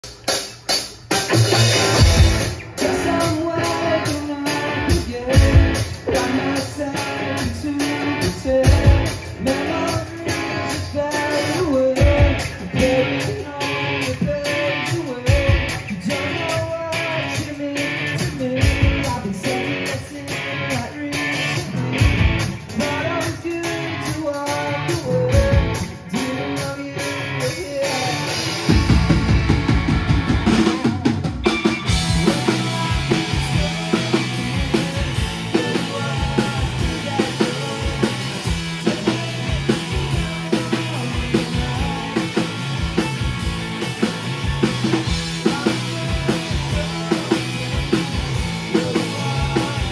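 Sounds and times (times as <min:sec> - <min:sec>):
rock band playing: 0:00.0 - 0:49.9.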